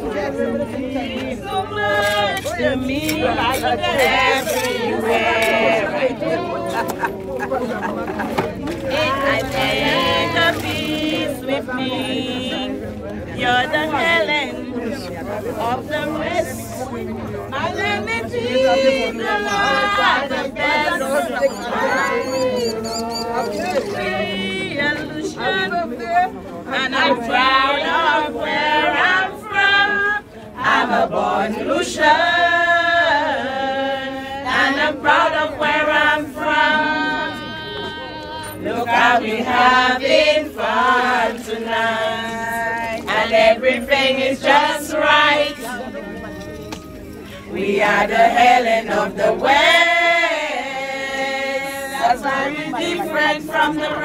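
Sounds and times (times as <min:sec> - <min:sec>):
group singing unaccompanied: 0:00.0 - 0:54.0.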